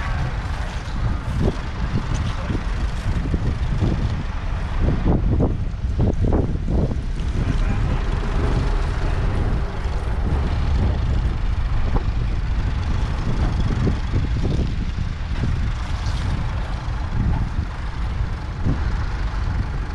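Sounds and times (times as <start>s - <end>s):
diesel engine idling: 0.0s - 19.9s.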